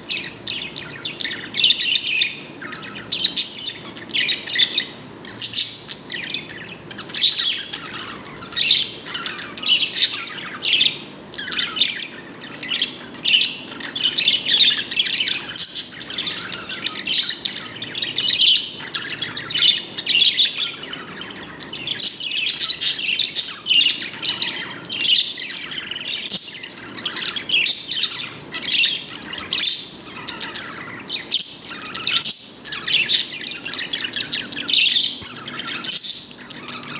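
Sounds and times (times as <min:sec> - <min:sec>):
bird chirping and tweeting: 0:00.0 - 0:36.9
bird squawks: 0:00.1 - 0:36.9.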